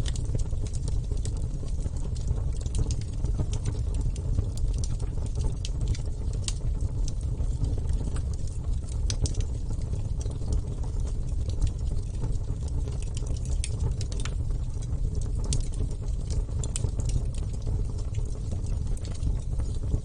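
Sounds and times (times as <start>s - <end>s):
bonfire rumble: 0.0s - 20.0s
burning wood crackling and popping: 0.0s - 20.0s.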